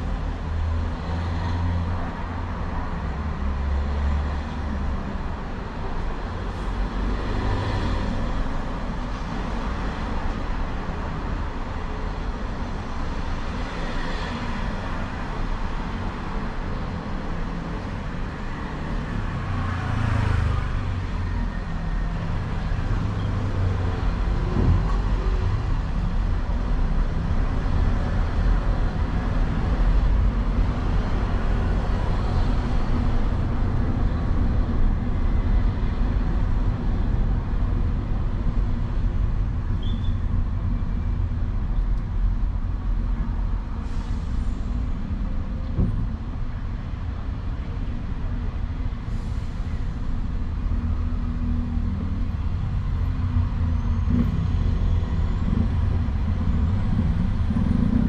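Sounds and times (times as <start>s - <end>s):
vehicle driving rumble: 0.0s - 58.0s.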